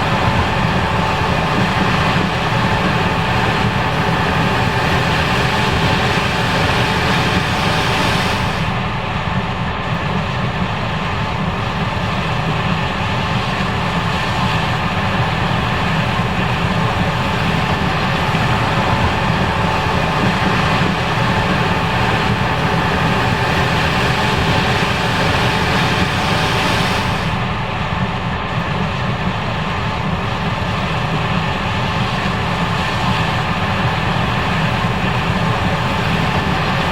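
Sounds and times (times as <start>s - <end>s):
combine harvester machinery drone: 0.0s - 36.9s.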